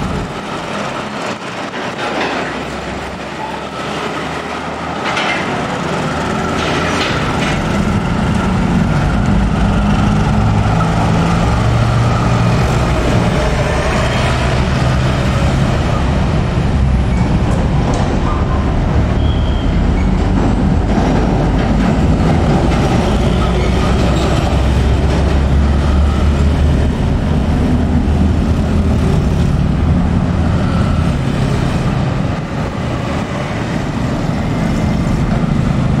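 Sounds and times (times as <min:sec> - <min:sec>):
locomotive engine droning: 0:00.0 - 0:36.0
wagons rumbling on rails: 0:00.0 - 0:36.0.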